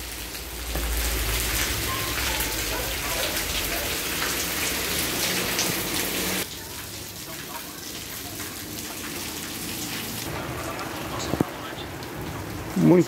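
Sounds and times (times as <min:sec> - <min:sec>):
rain on lawn and paving: 0:00.0 - 0:13.0.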